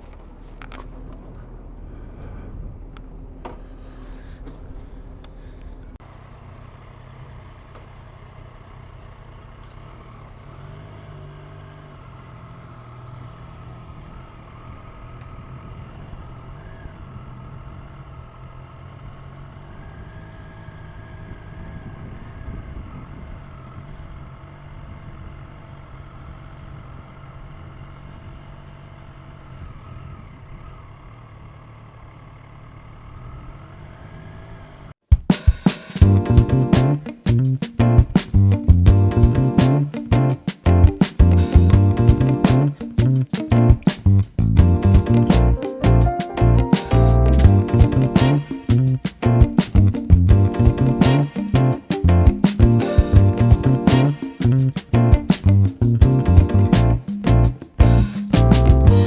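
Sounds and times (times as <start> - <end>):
engine running at low speed: 0.0 - 34.9, 36.0 - 59.0.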